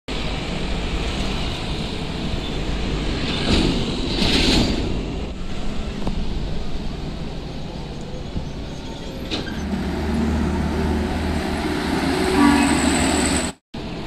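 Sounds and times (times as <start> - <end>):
diesel trucks passing: 0.1 - 14.0
tyre and engine rush: 0.1 - 14.0.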